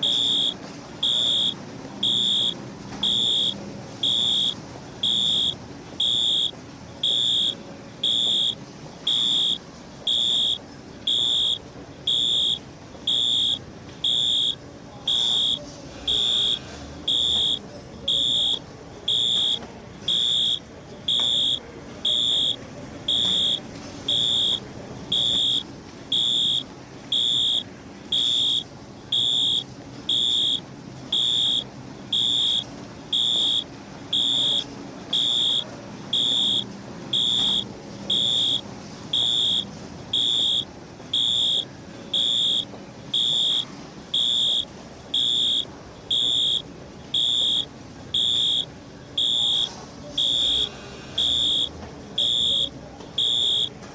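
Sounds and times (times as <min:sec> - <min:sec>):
fire alarm beeping: 0:00.0 - 0:53.9.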